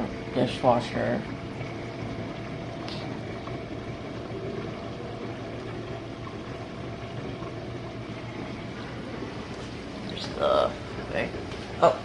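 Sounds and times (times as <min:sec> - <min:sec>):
low hum of pump motor: 0:00.0 - 0:12.0
swish of circulating water: 0:00.0 - 0:12.0.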